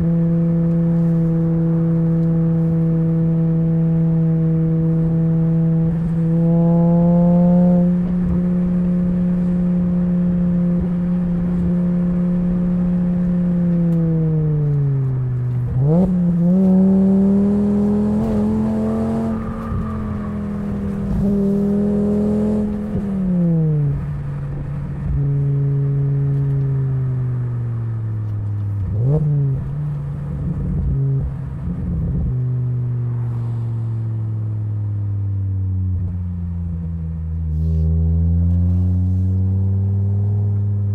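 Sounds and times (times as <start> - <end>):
car exhaust note: 0.0 - 40.9.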